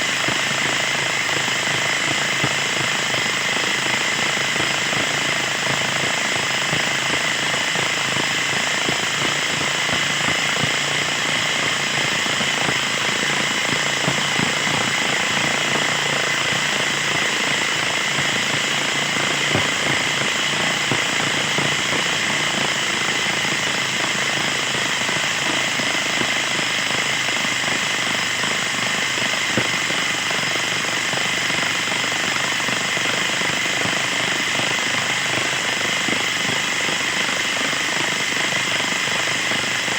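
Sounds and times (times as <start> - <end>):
mower engine running: 0.0 - 39.9.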